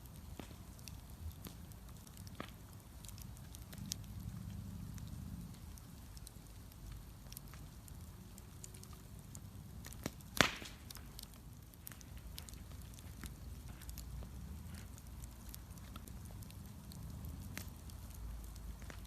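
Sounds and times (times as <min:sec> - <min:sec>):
bonfire burning and crackling: 0:00.0 - 0:19.0.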